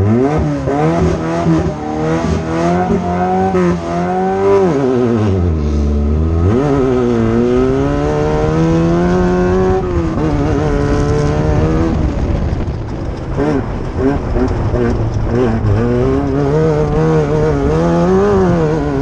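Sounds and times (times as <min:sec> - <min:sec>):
race car engine revving: 0:00.0 - 0:19.0.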